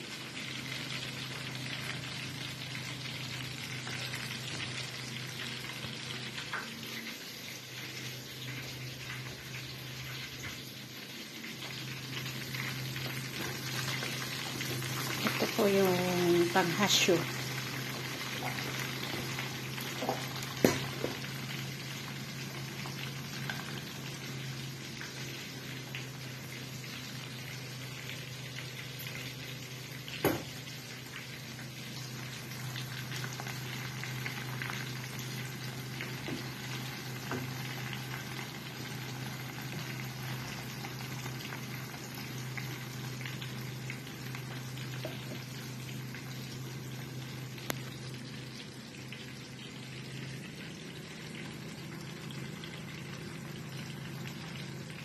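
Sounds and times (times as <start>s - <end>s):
chicken sizzling in butter: 0.0s - 55.0s.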